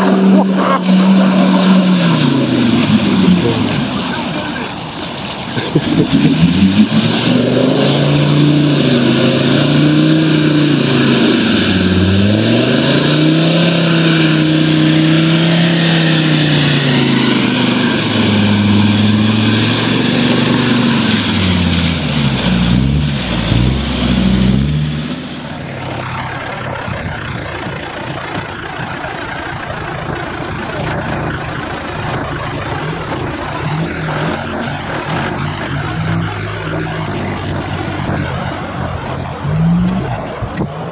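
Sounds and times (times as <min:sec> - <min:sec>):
car engine revving: 0:00.0 - 0:40.9
churned water rushing: 0:00.0 - 0:40.9.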